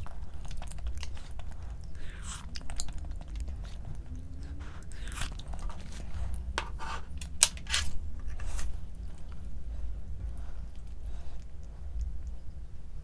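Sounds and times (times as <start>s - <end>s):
eating sounds: 0.0s - 6.6s, 8.2s - 13.0s.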